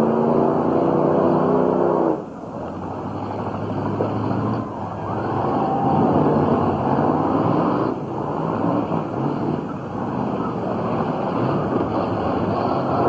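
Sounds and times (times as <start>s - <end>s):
engines revving hard: 0.0s - 13.0s.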